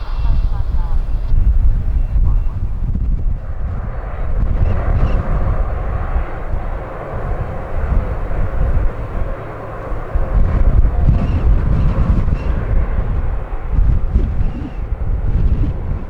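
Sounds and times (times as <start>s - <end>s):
distant jet engines running: 0.0s - 16.0s
wind buffeting microphone: 0.0s - 16.0s.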